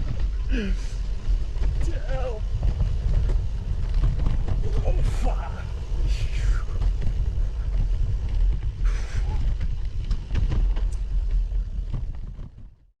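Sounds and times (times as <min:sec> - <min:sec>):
bike tyres crunching on gravel: 0:00.0 - 0:12.9
wind rumble on microphone: 0:00.0 - 0:12.9.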